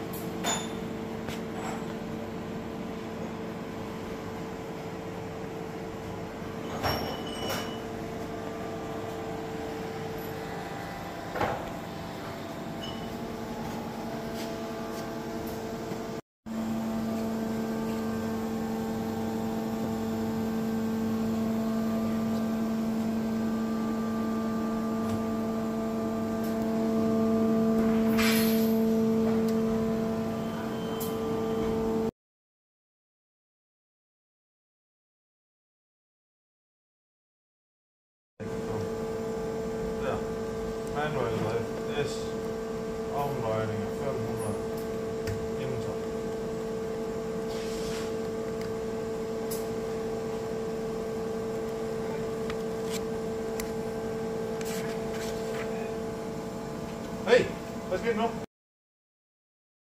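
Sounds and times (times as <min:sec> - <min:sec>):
machine hum: 0:02.0 - 0:32.1, 0:38.4 - 0:47.5, 0:48.1 - 0:58.4.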